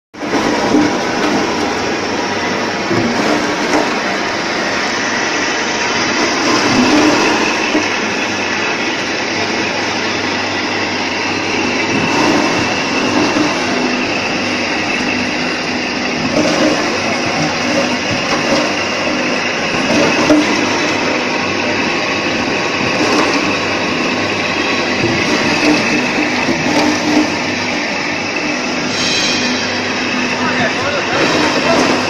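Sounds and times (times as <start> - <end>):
juicer motor running: 0.2 - 32.0.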